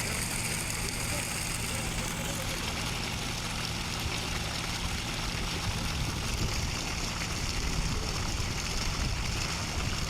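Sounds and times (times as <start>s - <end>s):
rotavator churning water and mud: 0.0s - 10.0s
tractor engine running: 0.0s - 10.0s.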